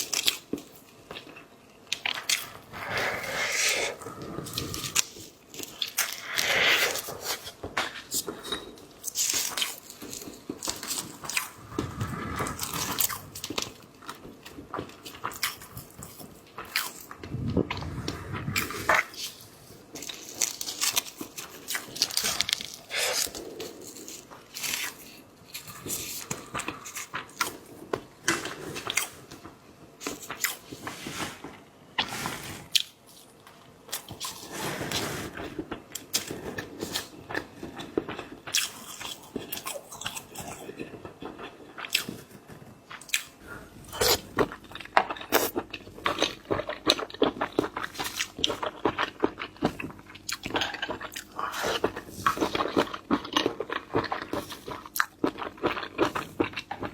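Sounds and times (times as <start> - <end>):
eating crunches and chewing: 0.0 - 8.4, 9.0 - 30.9, 32.7 - 34.5, 35.4 - 56.9.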